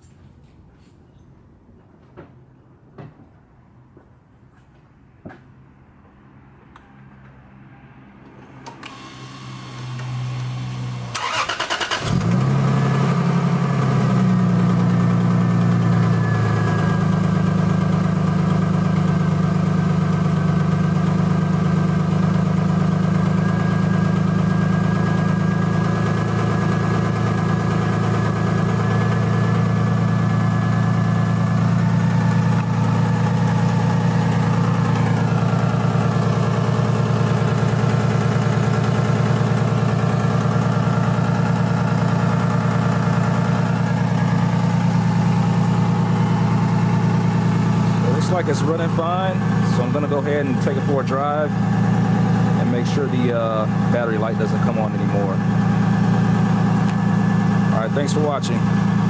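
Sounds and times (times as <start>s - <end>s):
car engine starting and idling: 8.4s - 59.0s.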